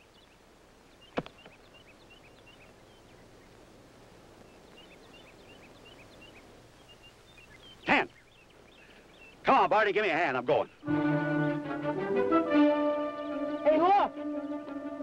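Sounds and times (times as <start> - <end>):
small birds chirping: 0.0 - 10.9, 12.8 - 15.0.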